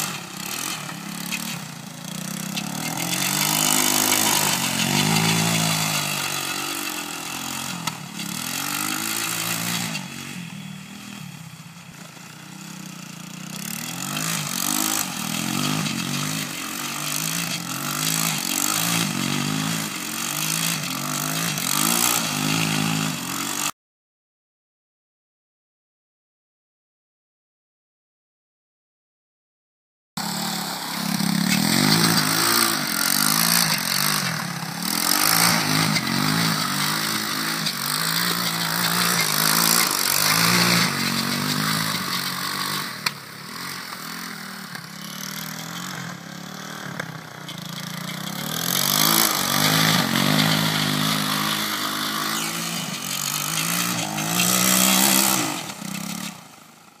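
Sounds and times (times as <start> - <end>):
engine revving: 0.0 - 23.7, 30.2 - 57.0.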